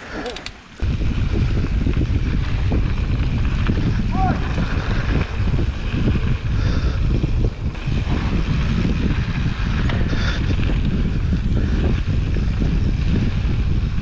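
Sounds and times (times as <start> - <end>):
wind rushing over microphone: 0.8 - 14.0.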